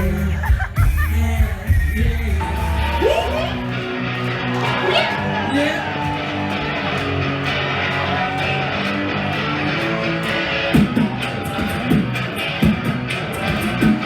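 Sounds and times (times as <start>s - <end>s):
live pop music over sound system: 0.0s - 14.0s.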